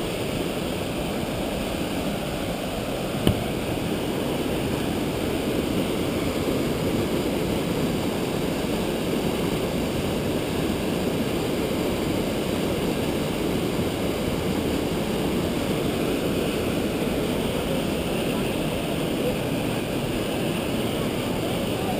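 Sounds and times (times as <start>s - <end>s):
stream rushing over boulders: 0.0s - 21.9s.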